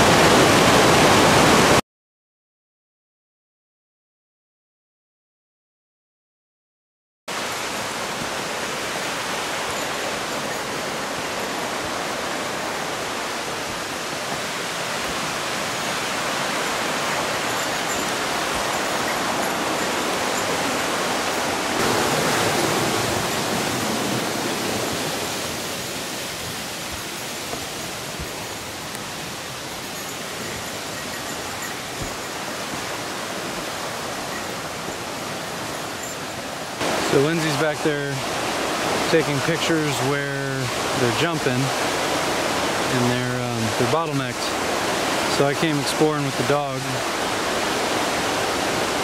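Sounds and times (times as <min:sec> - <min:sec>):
fast river water rushing: 0:00.0 - 0:01.8, 0:07.3 - 0:49.0.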